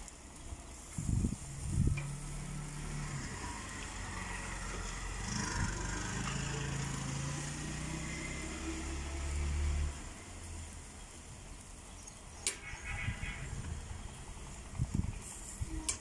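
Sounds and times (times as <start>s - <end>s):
engine running low hum: 0.0s - 16.0s.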